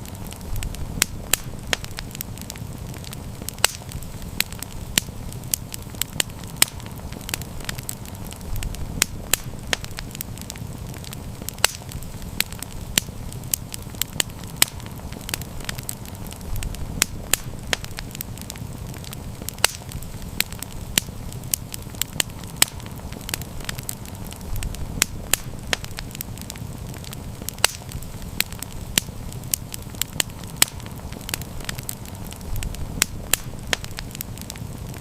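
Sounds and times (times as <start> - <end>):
campfire crackling and popping: 0.0 - 35.0
low rumble of flame: 0.0 - 35.0.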